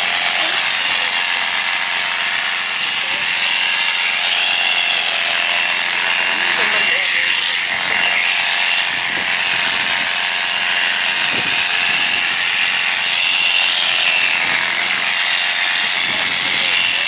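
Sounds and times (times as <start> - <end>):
electric shears whining: 0.0 - 17.0.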